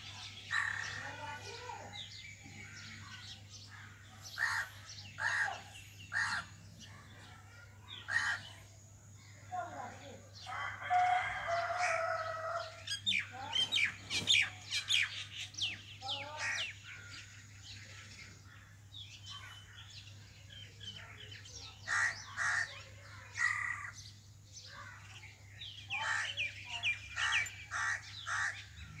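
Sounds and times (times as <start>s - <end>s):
birds chattering and whistling: 0.0s - 29.0s.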